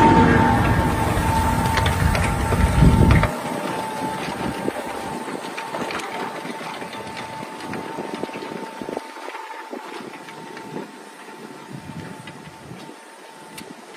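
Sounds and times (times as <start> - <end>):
thin steady whine: 0.0 - 13.9
tractor diesel engine under load: 0.0 - 13.9.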